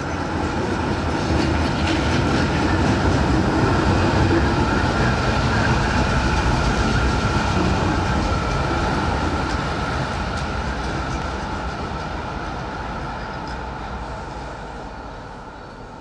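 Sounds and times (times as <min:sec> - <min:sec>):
tram rolling rumble: 0:00.0 - 0:16.0.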